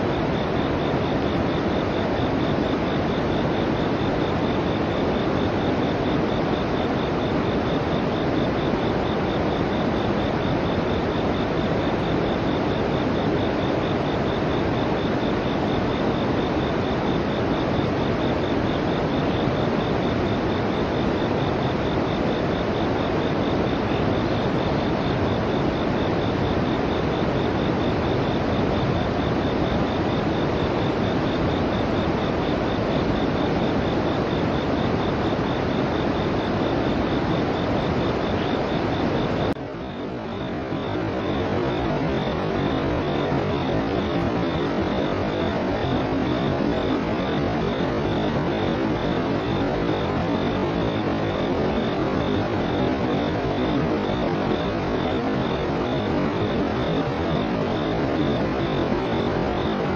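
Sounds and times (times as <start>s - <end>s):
insect trill: 0.0s - 59.9s.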